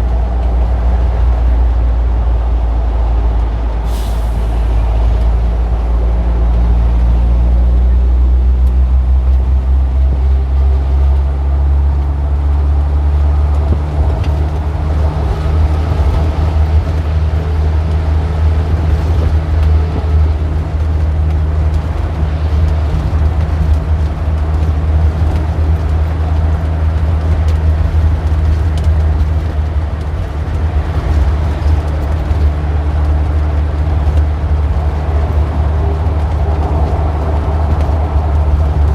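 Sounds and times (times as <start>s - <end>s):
large vehicle engine humming: 0.0s - 38.9s
passing traffic: 0.0s - 38.9s.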